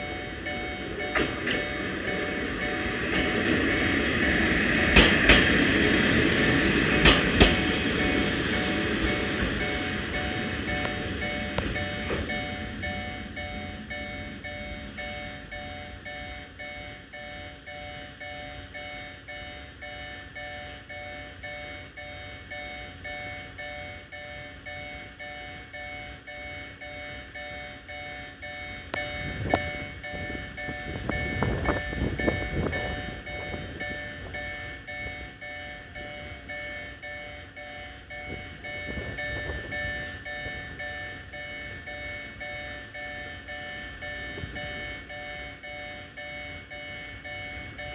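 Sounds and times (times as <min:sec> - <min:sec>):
level crossing warning bell: 0:00.0 - 0:47.9.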